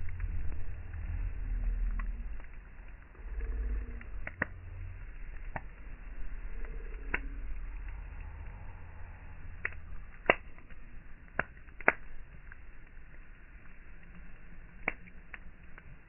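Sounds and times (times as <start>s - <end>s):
wind rumble on microphone: 0.0s - 16.0s
wood fire crackling and popping: 0.0s - 16.0s.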